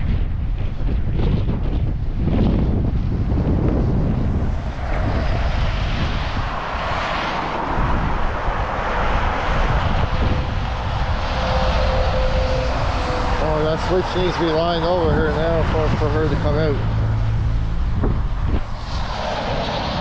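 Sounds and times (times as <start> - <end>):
distant engine drone: 0.0 - 20.0
wind buffeting microphone: 0.0 - 20.0.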